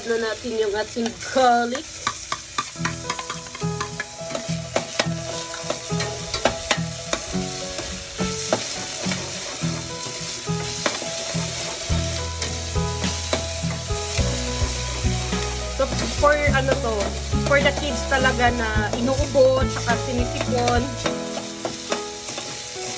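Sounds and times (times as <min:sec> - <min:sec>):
utensil scraping against pan: 0:00.0 - 0:22.6
garlic and onion sizzling in oil: 0:00.0 - 0:22.9.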